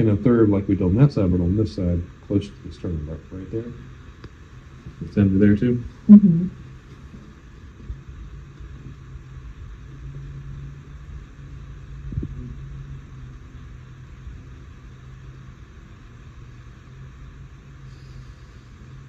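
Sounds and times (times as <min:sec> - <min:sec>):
low room hum and rumble: 0:00.0 - 0:19.0.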